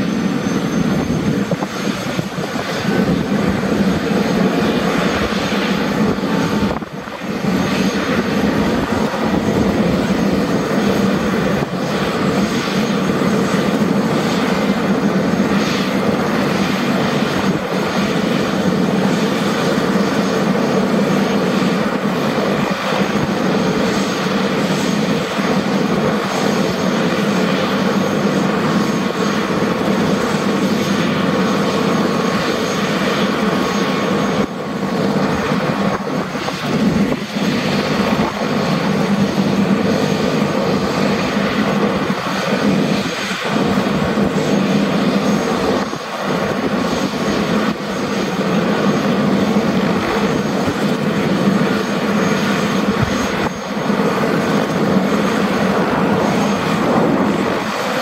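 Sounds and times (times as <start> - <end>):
helicopter rotor running noise: 0.0 - 58.0
helicopter turbine tone: 0.0 - 58.0.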